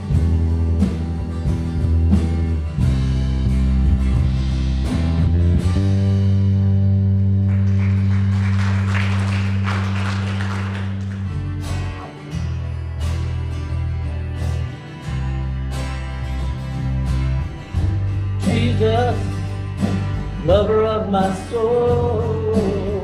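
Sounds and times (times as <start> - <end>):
electric bass guitar: 0.0 - 23.0
worship band backing track: 0.0 - 23.0.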